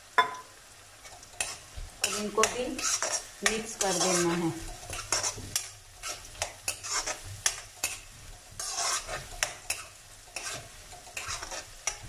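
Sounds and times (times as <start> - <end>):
onions sizzling in oil: 0.0 - 12.0
metal spatula scraping a pan: 1.0 - 12.0.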